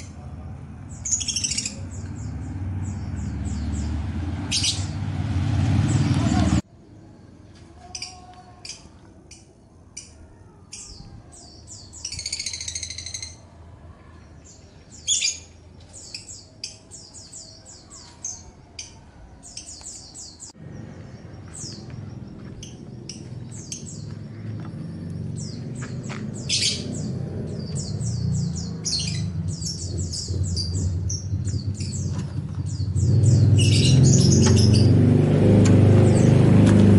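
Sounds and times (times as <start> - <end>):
songbirds chirping: 0.0 - 36.9.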